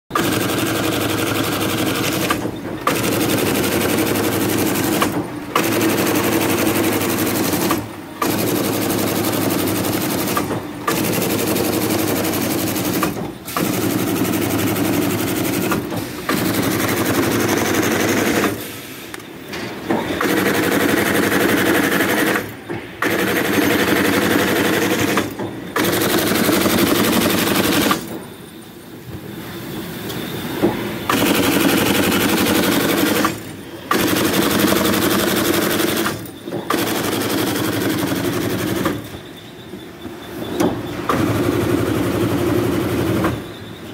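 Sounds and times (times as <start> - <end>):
stitching machine clattering: 0.1 - 18.8, 19.5 - 28.3, 31.1 - 39.2.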